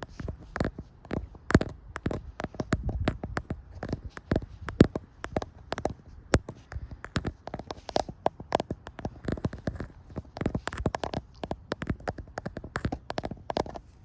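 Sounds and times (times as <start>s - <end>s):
rapid tapping on hard surface: 0.0s - 14.0s.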